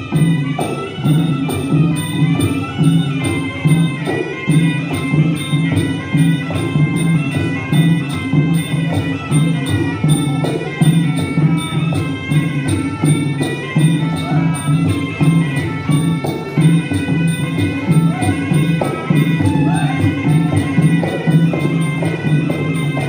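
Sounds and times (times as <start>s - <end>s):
percussion steady beat: 0.0s - 23.0s.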